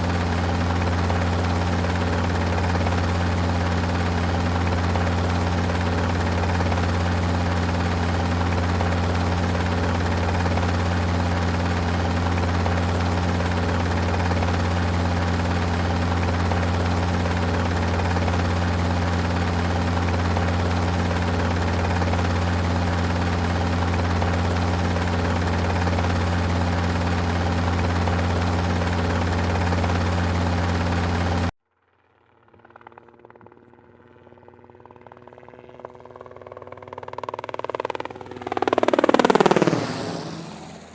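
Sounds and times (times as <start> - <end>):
helicopter rotor and engine drone: 0.0 - 31.6, 32.3 - 40.9
faint engine: 0.0 - 40.9.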